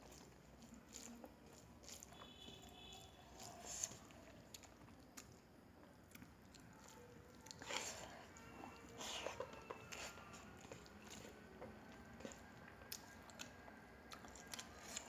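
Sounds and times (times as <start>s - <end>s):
person chewing: 0.0s - 5.4s, 6.0s - 15.0s.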